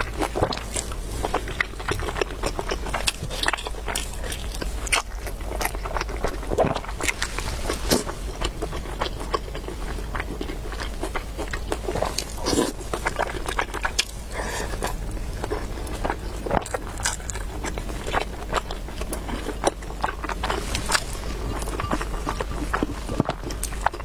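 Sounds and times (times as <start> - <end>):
chewing and slurping: 0.0 - 24.0
steady low hum: 0.0 - 24.0.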